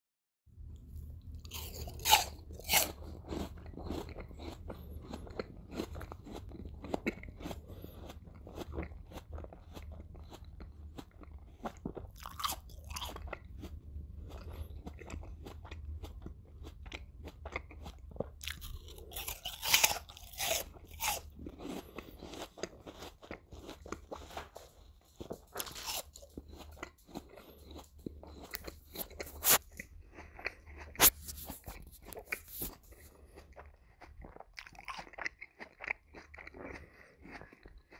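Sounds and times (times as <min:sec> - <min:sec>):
wet chewing clicks: 0:00.8 - 0:37.9
crisp apple crunches: 0:01.3 - 0:37.9.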